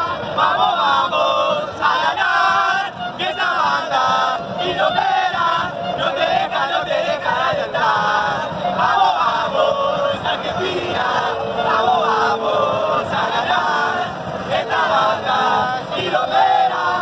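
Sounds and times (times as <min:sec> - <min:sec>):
fans singing a chant: 0:00.0 - 0:17.0.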